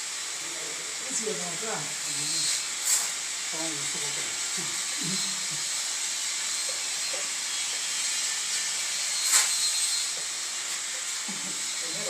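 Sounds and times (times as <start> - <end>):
high-pitched hiss: 0.0 - 12.0.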